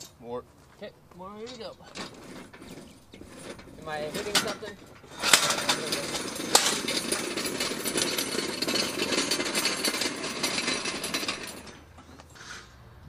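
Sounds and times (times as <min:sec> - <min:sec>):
steel wheels rattling on asphalt: 0:01.4 - 0:12.6.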